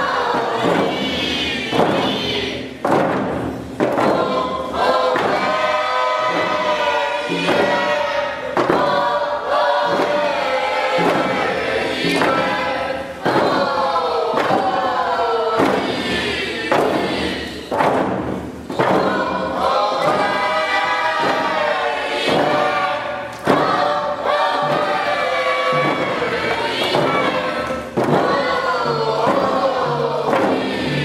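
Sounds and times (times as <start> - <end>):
group singing in unison: 0.0 - 3.2, 3.8 - 31.0
steady thumping beat: 0.0 - 31.0.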